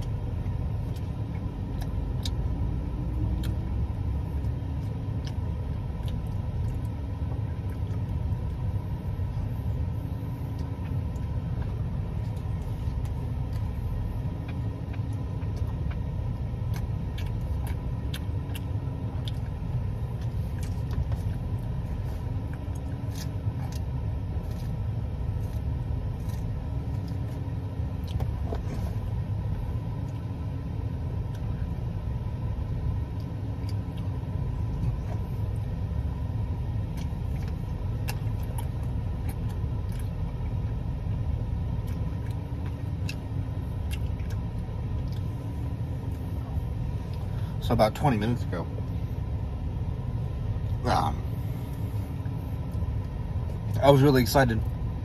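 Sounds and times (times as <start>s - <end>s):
person chewing: 0.0s - 32.1s, 32.7s - 47.6s
low rumble: 0.0s - 53.8s.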